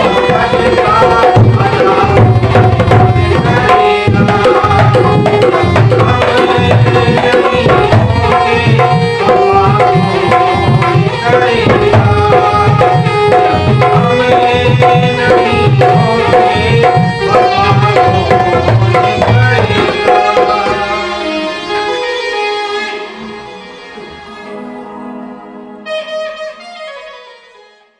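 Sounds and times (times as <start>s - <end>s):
tabla rhythm: 0.0s - 24.5s
sustained melody instruments: 0.0s - 27.9s.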